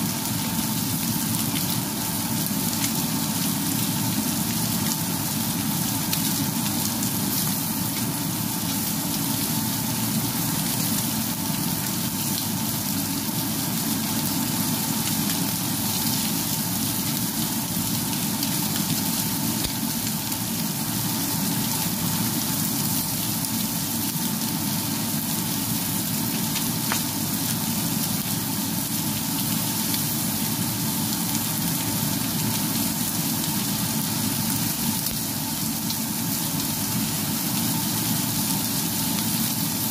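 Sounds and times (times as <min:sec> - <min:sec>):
meat sizzling in a frying pan: 0:00.0 - 0:39.9.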